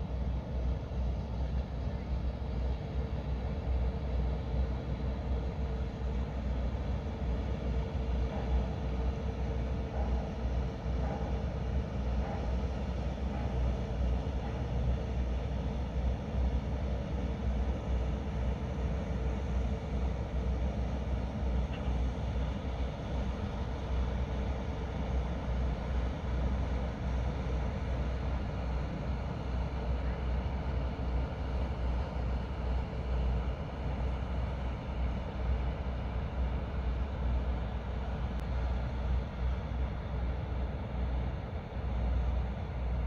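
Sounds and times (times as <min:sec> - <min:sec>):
distant boat diesel engine drone: 0:00.0 - 0:43.0
faint constant hum: 0:00.0 - 0:43.0.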